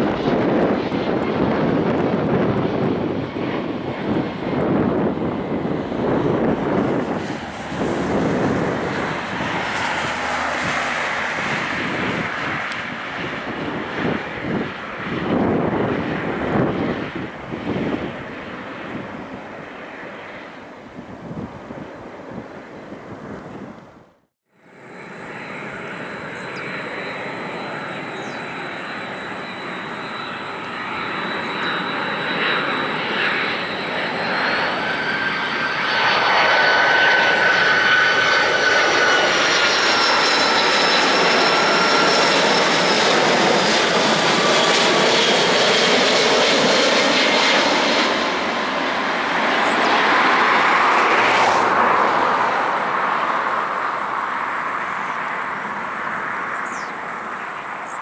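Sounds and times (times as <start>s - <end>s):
high whining jet tones: 0.0s - 20.7s, 24.6s - 58.0s
jet engine rumble: 0.0s - 58.0s.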